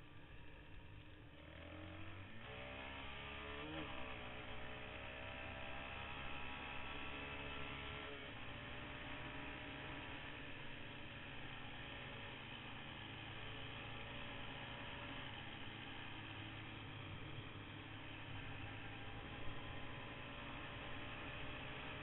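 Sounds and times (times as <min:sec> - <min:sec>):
quad engine accelerating: 0:00.0 - 0:22.0.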